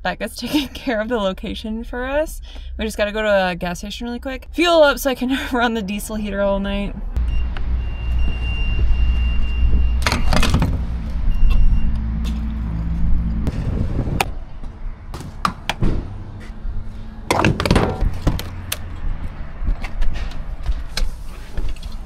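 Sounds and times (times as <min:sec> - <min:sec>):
engine humming: 0:00.0 - 0:20.9.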